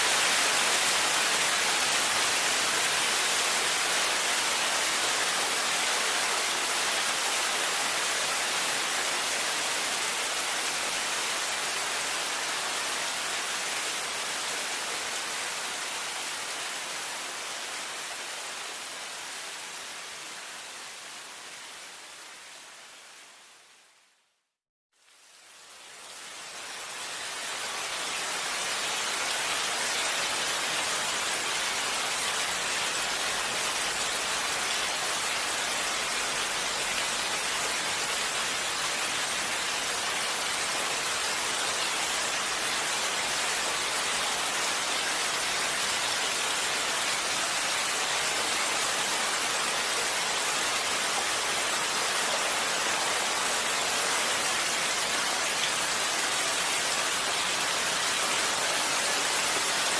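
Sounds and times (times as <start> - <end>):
heavy rain: 0.0 - 23.9, 25.0 - 59.9.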